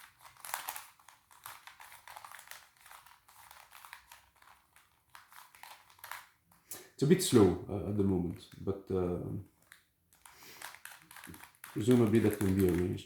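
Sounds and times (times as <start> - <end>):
plastic puzzle clicking and clacking: 0.0 - 8.6, 9.5 - 13.0.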